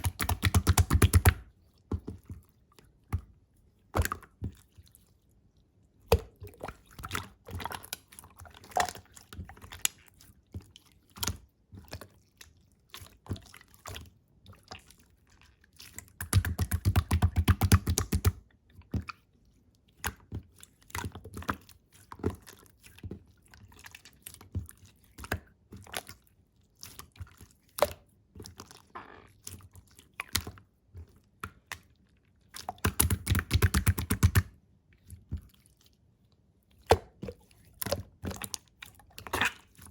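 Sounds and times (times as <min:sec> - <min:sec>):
slime squishing: 0:00.0 - 0:39.9.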